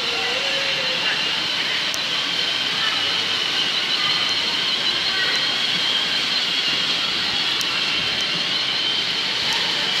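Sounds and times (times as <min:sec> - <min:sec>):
toy motorcycle motor whine: 0:00.0 - 0:10.0.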